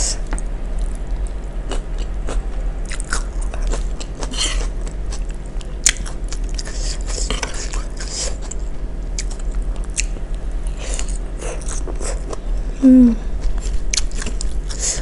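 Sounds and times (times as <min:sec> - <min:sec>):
chewing and crunching salad: 0:00.2 - 0:12.7, 0:13.4 - 0:15.0.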